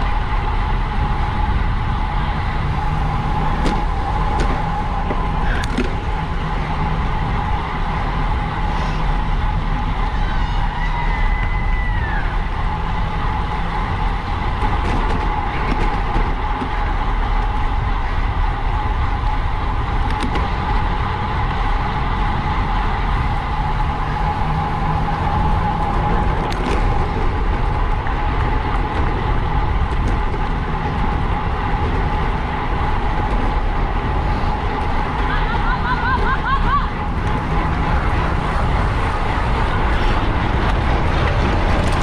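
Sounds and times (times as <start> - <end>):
wind rush over microphone: 0.0 - 42.0.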